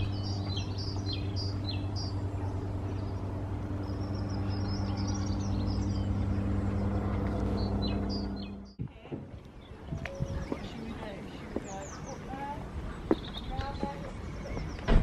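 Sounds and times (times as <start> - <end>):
low mechanical hum: 0.0 - 15.0
small birds chirping: 0.0 - 15.0.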